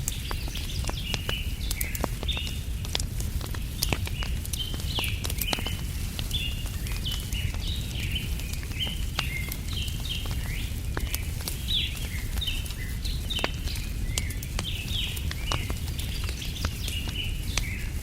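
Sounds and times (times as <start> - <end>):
small birds chirping: 0.0 - 18.0
wood fire crackling: 0.0 - 18.0.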